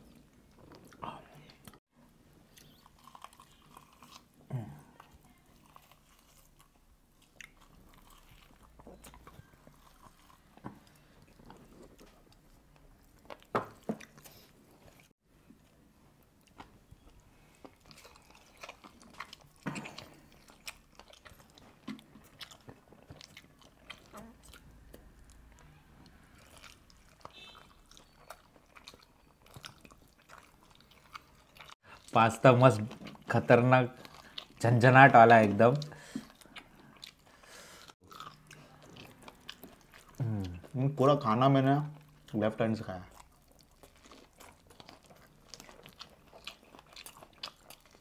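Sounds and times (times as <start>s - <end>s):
people chewing and biting: 2.5s - 40.8s, 41.7s - 48.0s.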